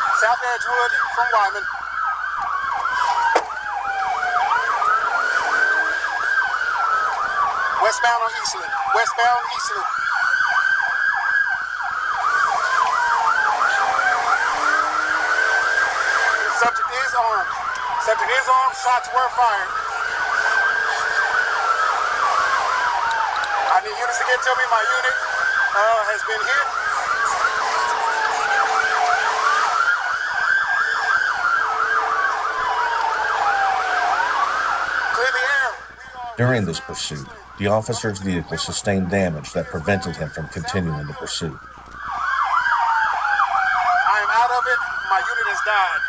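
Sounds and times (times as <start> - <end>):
police siren yelp and wail: 0.0 - 46.0.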